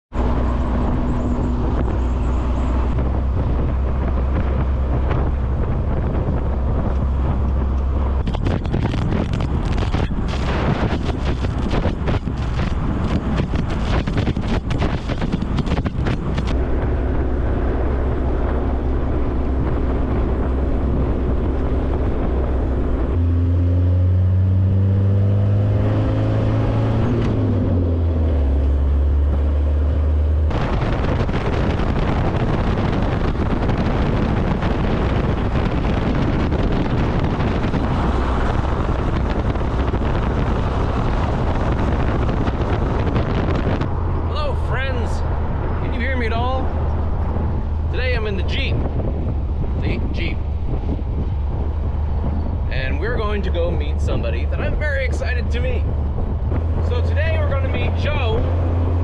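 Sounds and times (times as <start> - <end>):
vehicle engine running: 0.1 - 59.0.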